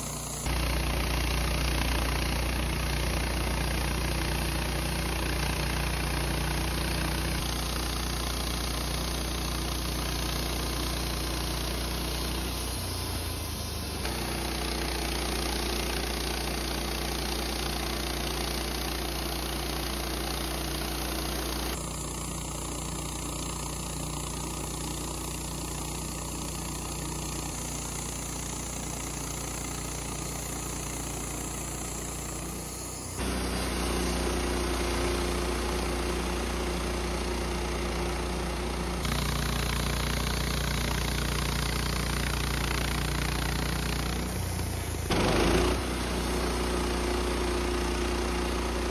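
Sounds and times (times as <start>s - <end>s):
band sawmill cutting wood: 0.0s - 48.9s.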